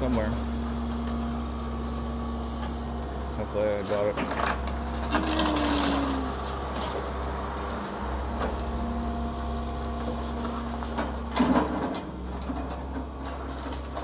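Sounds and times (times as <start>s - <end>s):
excavator engine rumble: 0.0s - 14.0s.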